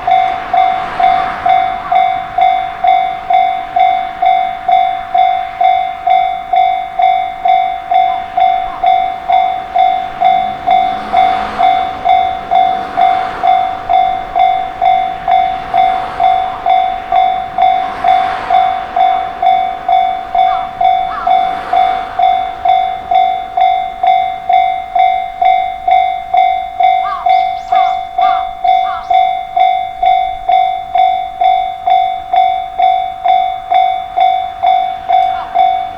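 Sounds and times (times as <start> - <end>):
level-crossing alarm bell: 0.0 - 35.9
train passing over crossing: 0.0 - 35.9.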